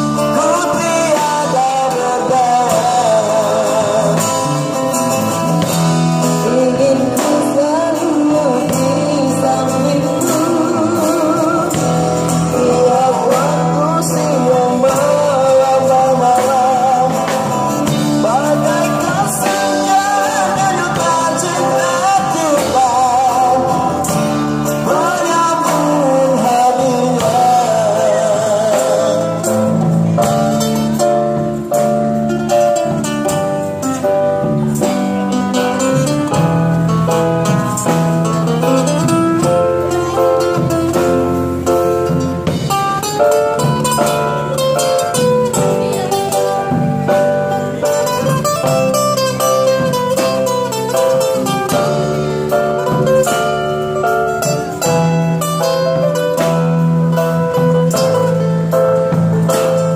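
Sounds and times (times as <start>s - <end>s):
drum kit: 0.0s - 59.9s
guitar melody: 0.0s - 59.9s
keyboard: 0.0s - 59.9s.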